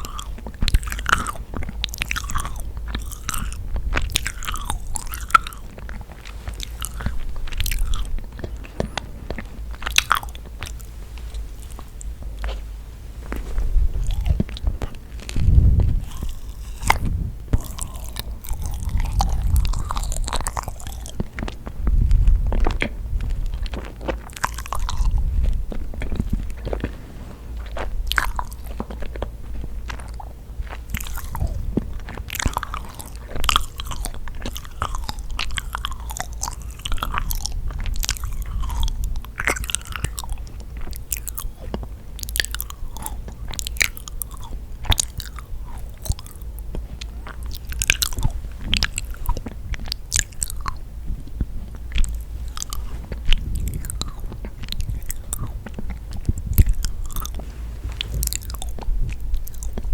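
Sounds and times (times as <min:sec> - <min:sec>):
chewing with wet mouth clicks: 0:00.0 - 0:59.9
crunchy bites: 0:00.0 - 0:59.9.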